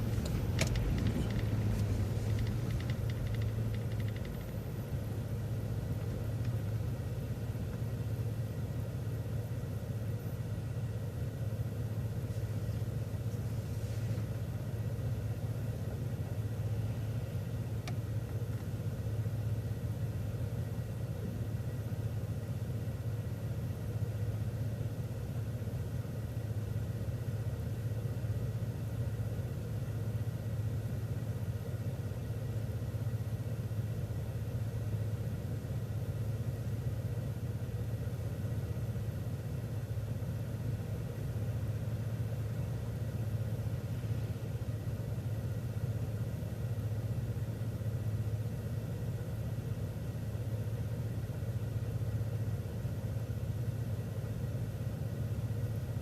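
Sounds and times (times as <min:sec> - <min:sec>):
bus engine humming: 0:00.0 - 0:56.0.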